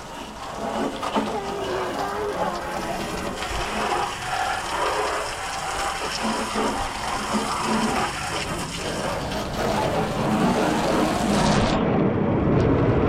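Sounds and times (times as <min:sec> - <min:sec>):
water running and splashing: 0:00.0 - 0:11.8.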